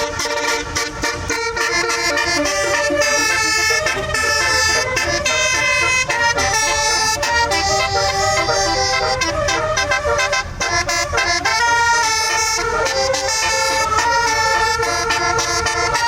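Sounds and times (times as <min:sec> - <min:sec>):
bus horn playing a tune: 0:00.0 - 0:16.0.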